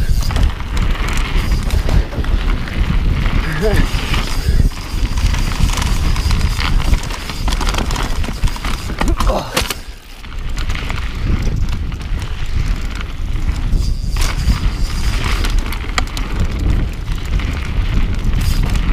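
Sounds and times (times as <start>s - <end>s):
bike knocking and rattling: 0.0s - 18.9s
bike tyre noise: 0.0s - 18.9s
wind rumbling on microphone: 0.0s - 18.9s.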